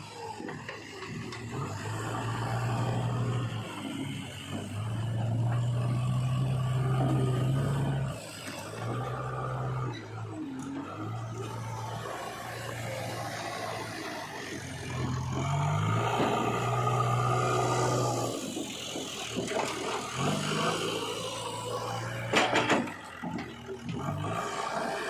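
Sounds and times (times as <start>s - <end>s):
heavy engine running: 0.0s - 25.0s.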